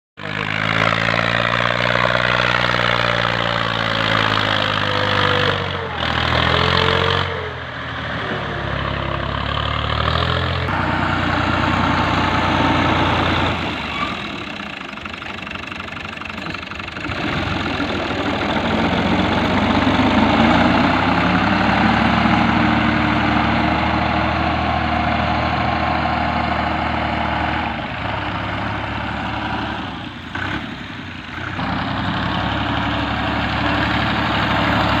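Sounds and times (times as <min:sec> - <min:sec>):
tractor engines under load: 0:00.2 - 0:35.0.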